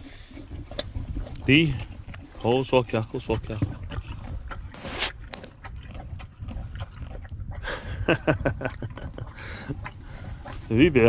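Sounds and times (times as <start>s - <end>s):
horse blowing breath: 0.0s - 2.4s, 3.6s - 11.0s.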